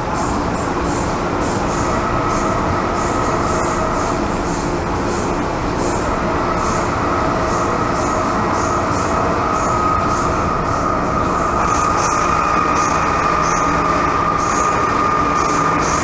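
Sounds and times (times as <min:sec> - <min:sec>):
high whine: 0:00.0 - 0:16.0
train wheels rumbling on rail: 0:00.0 - 0:16.0.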